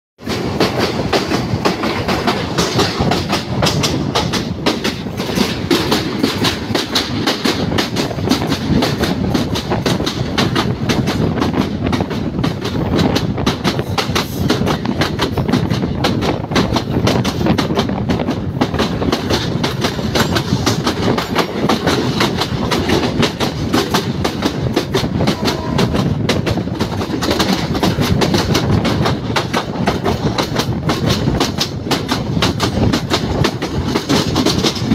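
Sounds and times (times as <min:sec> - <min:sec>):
train wheels clattering on rails: 0:00.2 - 0:34.9.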